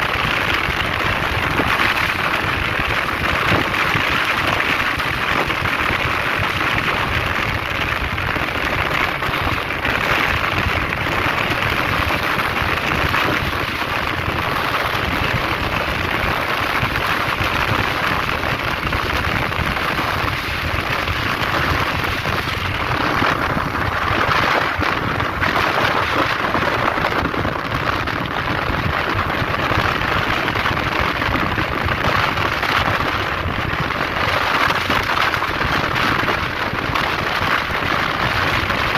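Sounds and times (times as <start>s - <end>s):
low buffeting rumble: 0.0s - 38.9s
wind and rain rushing: 0.0s - 38.9s.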